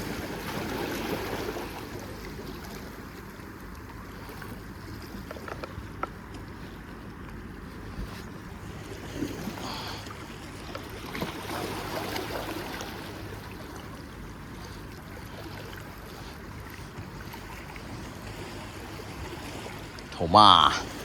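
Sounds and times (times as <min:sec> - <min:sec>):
water splashing and lapping: 0:00.0 - 0:21.0.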